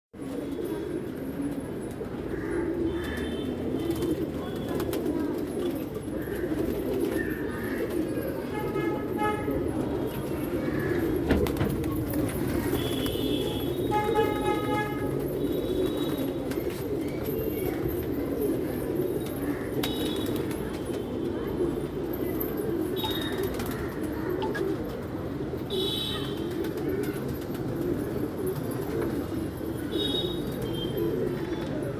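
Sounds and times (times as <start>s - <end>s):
pigeons cooing: 0.2s - 31.9s.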